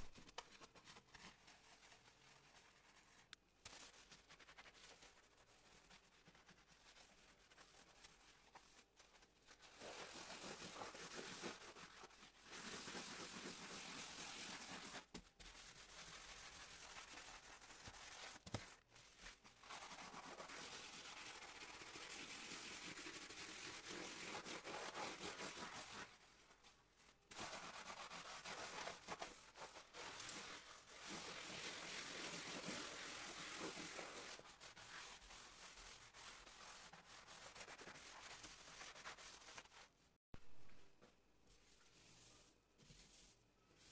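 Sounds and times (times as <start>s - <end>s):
sponge scrubbing steel and tiles: 0.6s - 18.4s, 19.0s - 26.2s, 27.3s - 39.9s.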